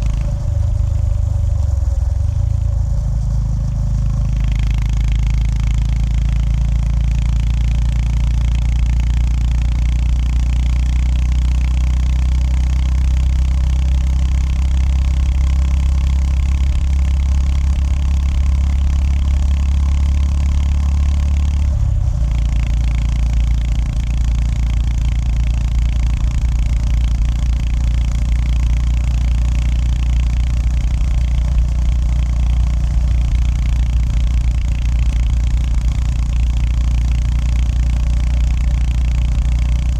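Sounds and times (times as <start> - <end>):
road and wind noise: 0.0 - 9.5, 11.3 - 39.9
motorcycle engine running: 0.0 - 39.9.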